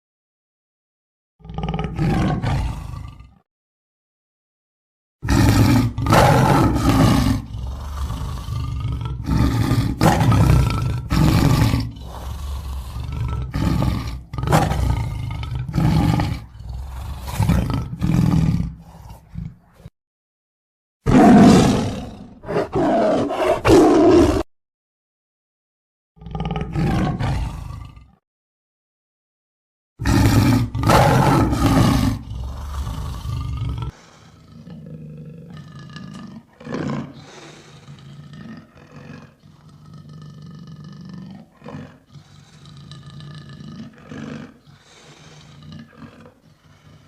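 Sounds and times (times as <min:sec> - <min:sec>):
lion roaring: 0:01.4 - 0:03.4, 0:05.2 - 0:19.9, 0:21.1 - 0:24.5, 0:26.2 - 0:28.2, 0:30.0 - 0:47.0.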